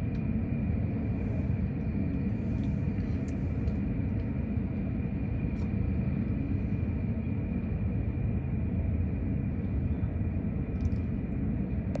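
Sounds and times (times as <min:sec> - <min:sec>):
faint high whine: 0:00.0 - 0:12.0
jet engine low rumble: 0:00.0 - 0:12.0.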